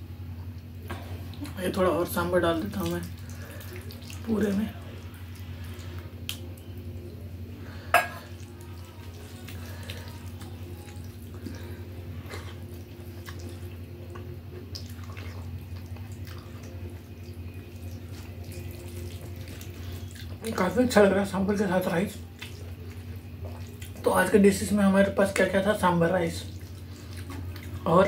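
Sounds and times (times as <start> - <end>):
soft wet squishing: 0.3 - 28.0.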